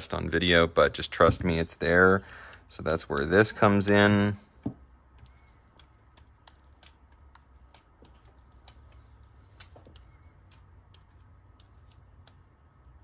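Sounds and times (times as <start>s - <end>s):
low room hum: 0.0s - 13.0s
fingers tapping glass screen: 2.3s - 13.0s.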